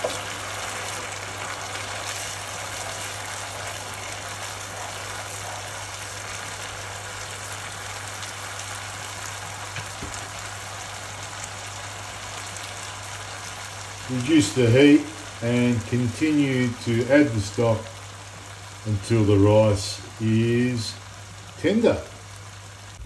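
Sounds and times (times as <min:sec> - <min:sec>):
rice sizzling in a frying pan: 0:00.0 - 0:23.0.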